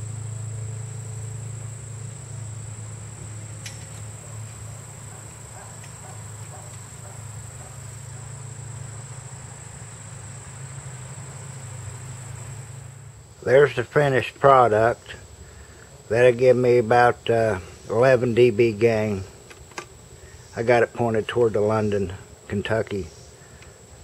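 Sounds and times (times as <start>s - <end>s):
insects droning: 0.0s - 24.0s
steady low hum: 0.0s - 24.0s.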